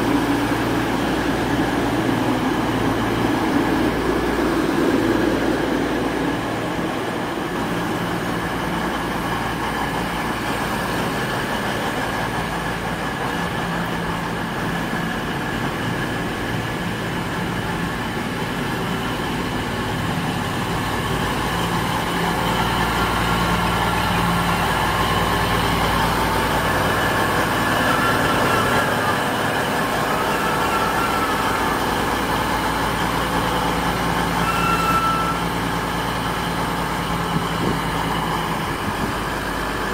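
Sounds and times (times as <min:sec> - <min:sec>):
diesel train engines droning: 0:00.0 - 0:39.9.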